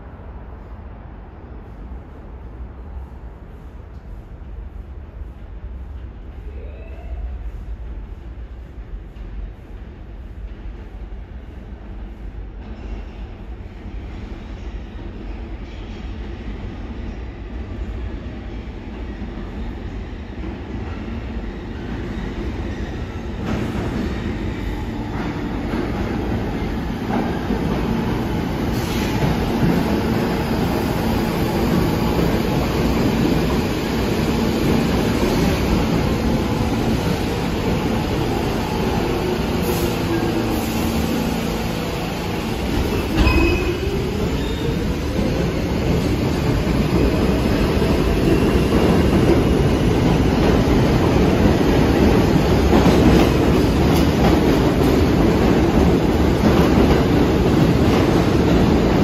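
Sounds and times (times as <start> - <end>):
subway train rumbling on rails: 0.0 - 59.0.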